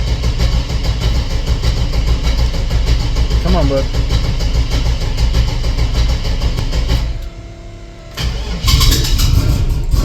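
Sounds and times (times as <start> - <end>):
engine starter cranking: 0.0 - 7.4, 8.1 - 10.0.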